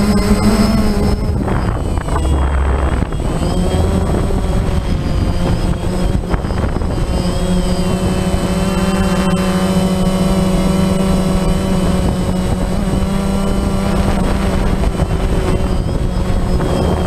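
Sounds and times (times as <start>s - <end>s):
drone motors buzzing: 0.0s - 17.0s.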